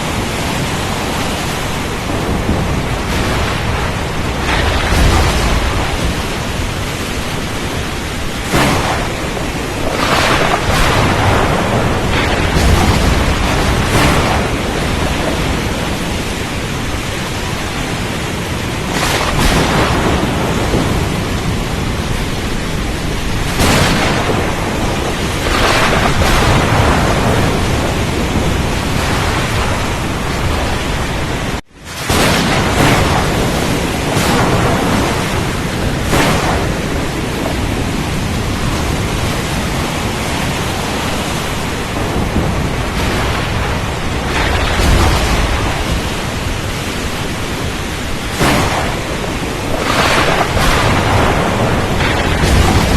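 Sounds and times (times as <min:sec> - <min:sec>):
heavy rain: 0:00.0 - 0:52.9
storm rumble: 0:00.0 - 0:52.9.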